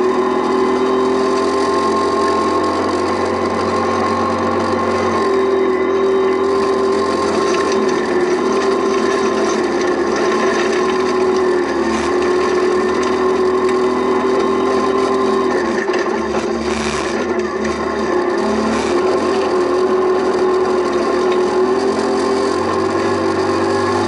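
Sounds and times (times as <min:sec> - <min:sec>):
car engine revving: 0:00.0 - 0:24.0
gravel rattling under tyres: 0:00.0 - 0:24.0.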